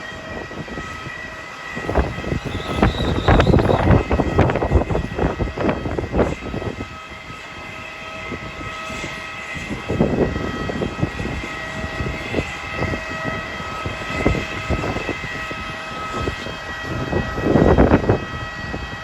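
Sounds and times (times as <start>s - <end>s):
jet turbine whine: 0.0s - 19.0s
wind buffeting microphone: 0.0s - 19.0s.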